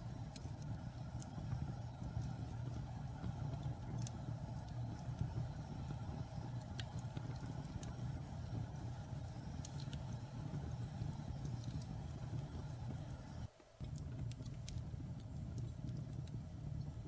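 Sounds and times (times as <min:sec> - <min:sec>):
fire rumbling: 0:00.0 - 0:17.0
logs crackling and popping: 0:00.0 - 0:17.0.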